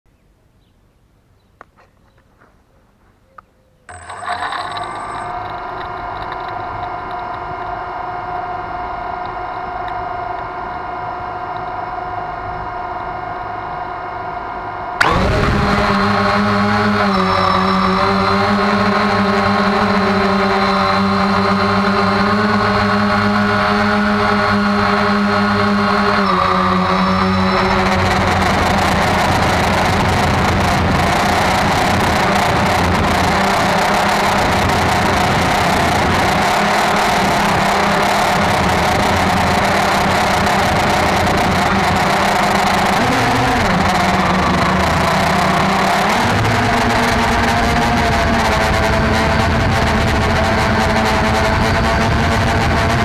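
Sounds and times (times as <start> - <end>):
drone motors whining and buzzing: 3.9 - 53.0.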